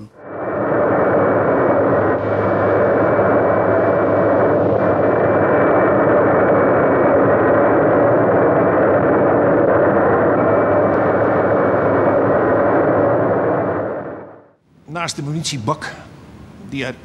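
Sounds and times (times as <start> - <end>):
jet aircraft drone: 0.0 - 14.6
thin whine: 0.0 - 14.6.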